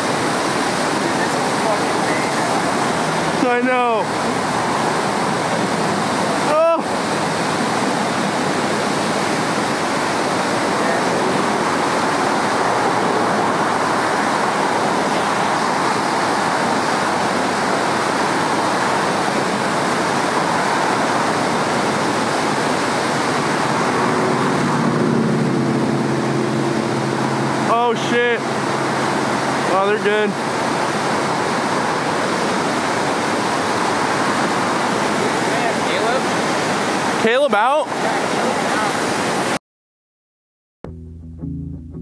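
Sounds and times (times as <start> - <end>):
whitewater river rushing: 0.0 - 39.6.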